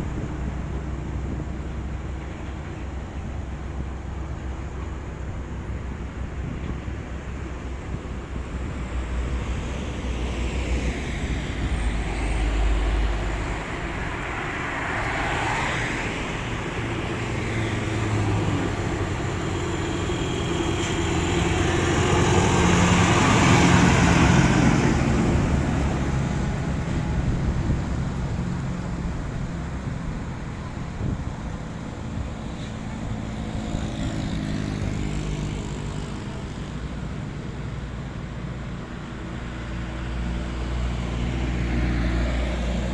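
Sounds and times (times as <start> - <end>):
diesel trucks pulling uphill: 0.0 - 42.9.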